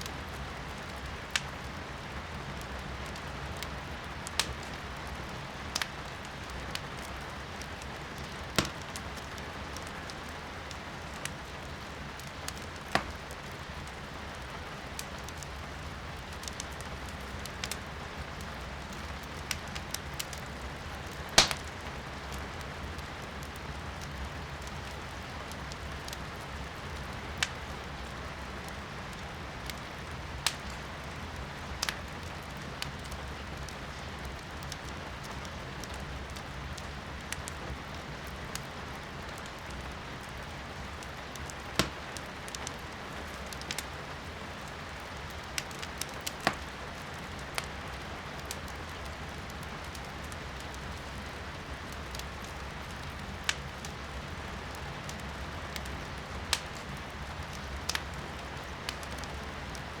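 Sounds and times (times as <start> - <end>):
firewood crackling: 0.0 - 60.0
rain heard from indoors: 0.0 - 60.0.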